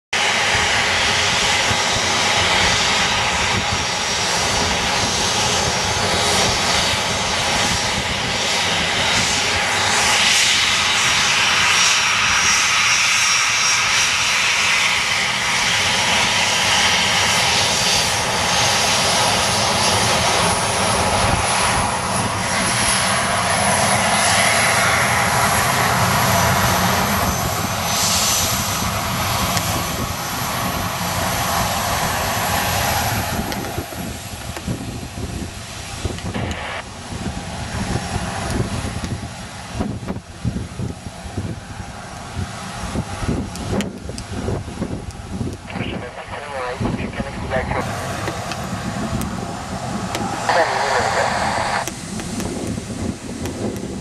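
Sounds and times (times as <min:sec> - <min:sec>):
jet engines running: 0:00.1 - 0:54.0
high engine whine: 0:00.2 - 0:54.0.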